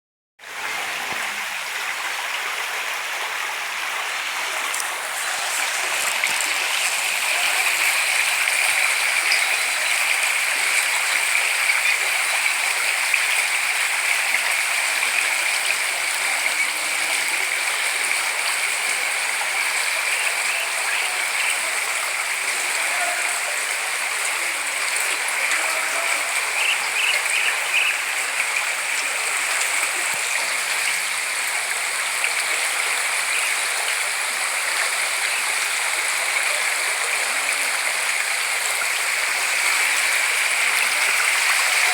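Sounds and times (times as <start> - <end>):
floodwater flowing fast: 0.4 - 41.9.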